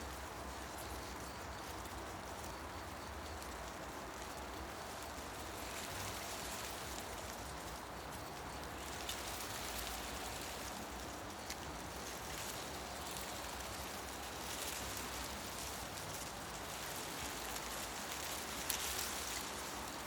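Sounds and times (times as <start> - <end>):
wind rustling tree leaves: 0.0 - 20.0.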